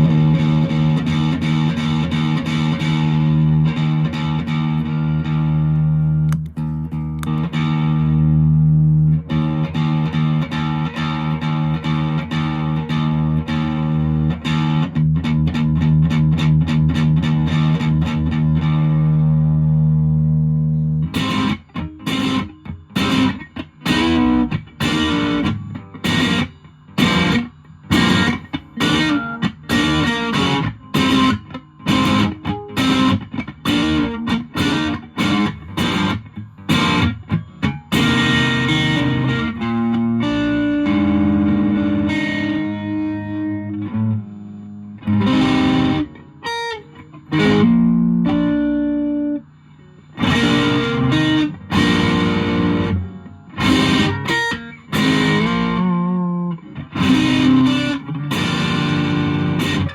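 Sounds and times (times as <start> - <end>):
distorted electric guitar chords: 0.0 - 59.9.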